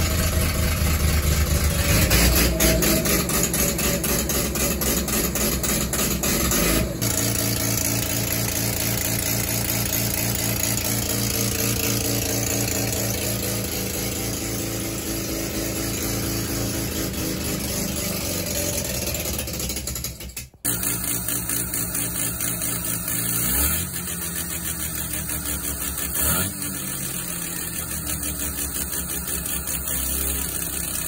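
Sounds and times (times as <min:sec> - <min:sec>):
rotary engine idling: 0:00.0 - 0:31.0.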